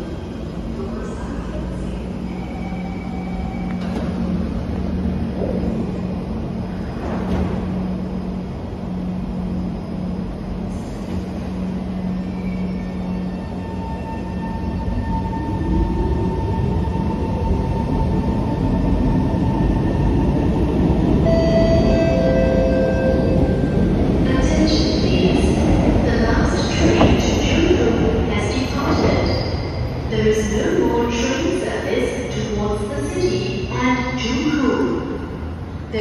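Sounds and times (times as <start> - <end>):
metro train humming: 0.0 - 36.0.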